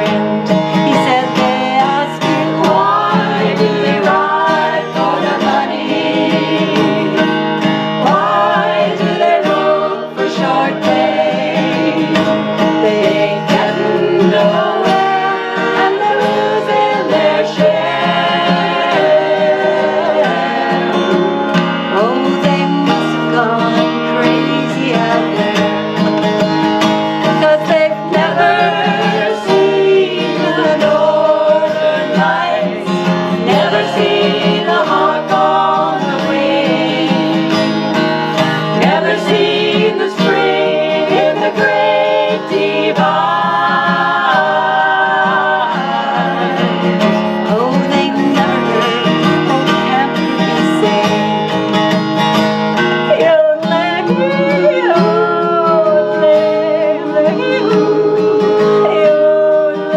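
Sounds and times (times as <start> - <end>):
women singing a cowboy song: 0.0 - 25.8, 27.2 - 52.2, 53.0 - 59.9
strummed acoustic guitar: 0.0 - 59.9.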